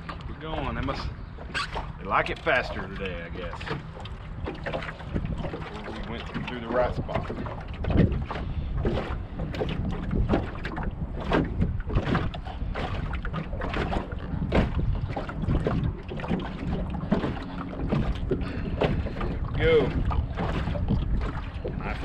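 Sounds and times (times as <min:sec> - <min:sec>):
waves slapping boat hull: 0:00.0 - 0:22.0
wind buffeting microphone: 0:00.0 - 0:22.0.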